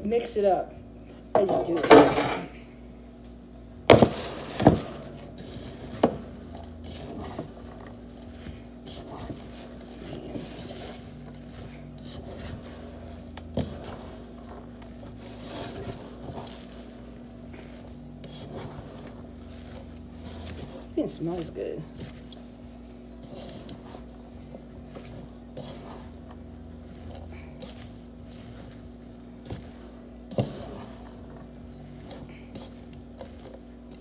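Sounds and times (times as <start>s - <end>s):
vegetables stirred in metal pot: 3.9s - 34.0s.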